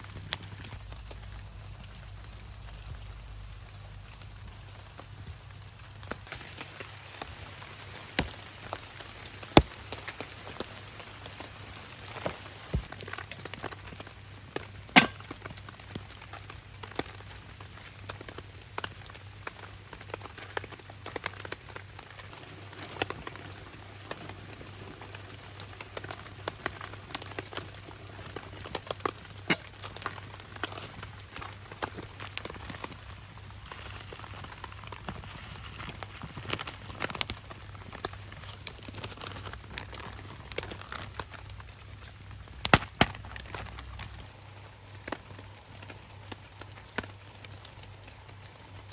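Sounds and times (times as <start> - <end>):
fire popping: 0.0 - 48.9
rain pattering on a tarp: 0.0 - 48.9
wood campfire crackling: 0.0 - 48.9.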